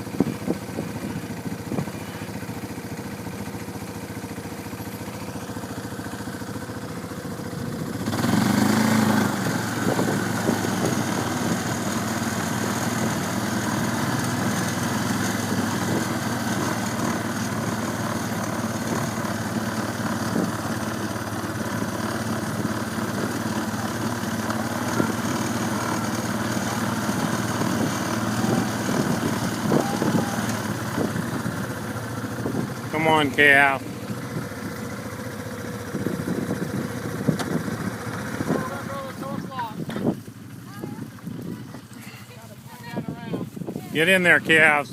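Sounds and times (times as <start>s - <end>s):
small vehicle engine running: 0.0s - 44.9s.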